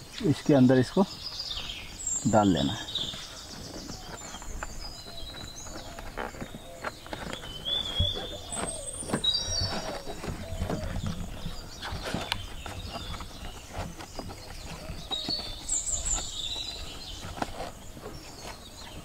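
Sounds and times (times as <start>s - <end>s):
bird calls chirping: 0.0s - 19.0s
child car seat being handled: 2.6s - 19.0s.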